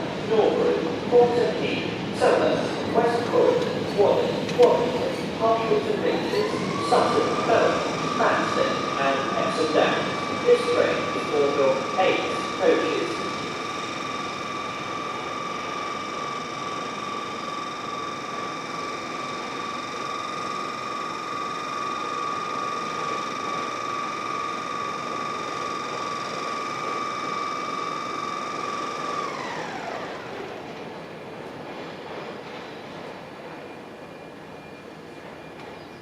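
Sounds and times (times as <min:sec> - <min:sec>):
electric train whine: 0:00.0 - 0:36.0
station background noise: 0:00.0 - 0:36.0.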